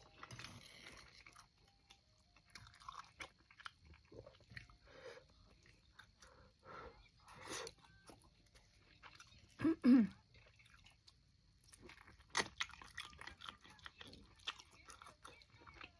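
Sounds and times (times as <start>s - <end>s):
faint chewing: 0.0s - 15.9s.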